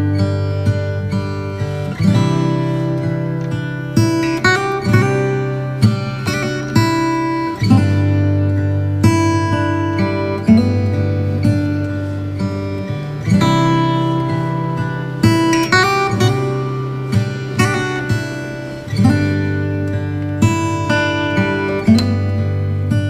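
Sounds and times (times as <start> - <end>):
acoustic guitar chords: 0.0 - 23.0.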